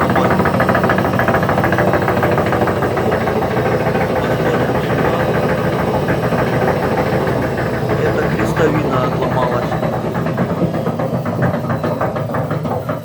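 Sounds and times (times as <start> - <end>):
low hum: 0.0 - 13.0
washing machine drum rattling: 0.0 - 13.0.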